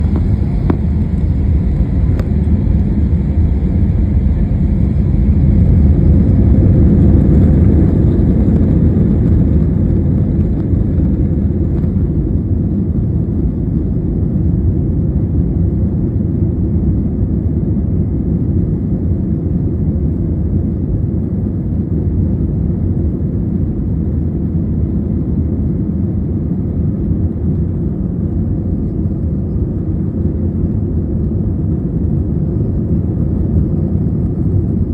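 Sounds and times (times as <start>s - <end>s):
airliner engines taking off: 0.0s - 34.9s.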